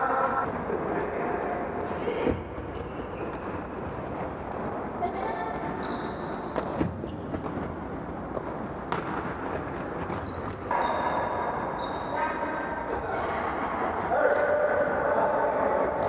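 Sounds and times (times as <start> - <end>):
ball strike in a gym hall: 0.0 - 16.0.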